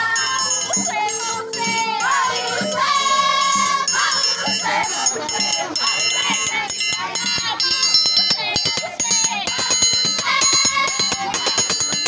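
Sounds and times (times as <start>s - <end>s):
group of voices singing: 0.0s - 12.0s
shakers jingling: 0.0s - 12.0s.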